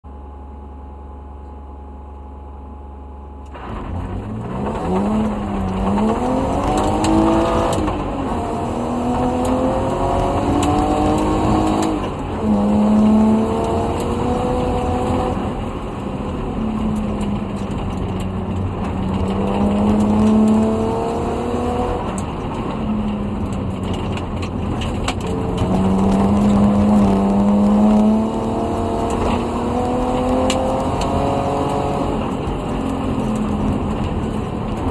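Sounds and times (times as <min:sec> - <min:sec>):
rally car engine revving: 0:02.4 - 0:34.9
gravel clicking against car: 0:03.4 - 0:34.9.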